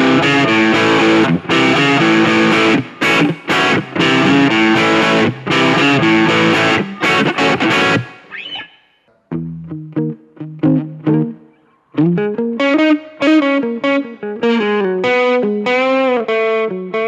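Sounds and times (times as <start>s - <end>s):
distorted electric guitar chords: 0.0s - 8.5s, 9.3s - 17.0s.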